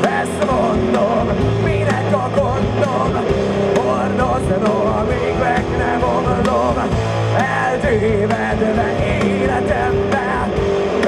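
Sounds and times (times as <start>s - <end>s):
bass guitar: 0.0s - 11.0s
drum kit: 0.0s - 11.0s
electric guitars: 0.0s - 11.0s.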